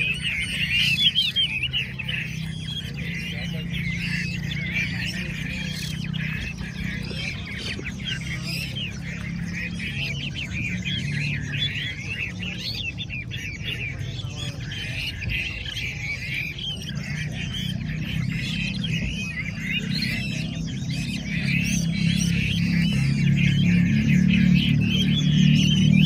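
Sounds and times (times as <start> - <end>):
chorus of birds singing: 0.0 - 26.0.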